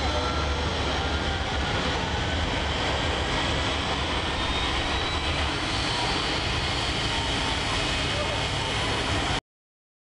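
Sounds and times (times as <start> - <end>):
turbojet engine running: 0.0 - 9.4.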